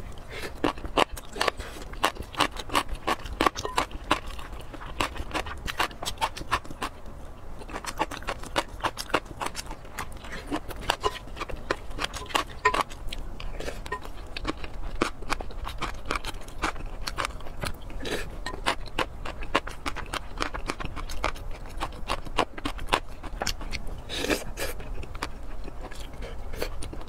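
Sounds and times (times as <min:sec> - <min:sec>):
wet chewing and mouth smacking: 0:00.0 - 0:27.0.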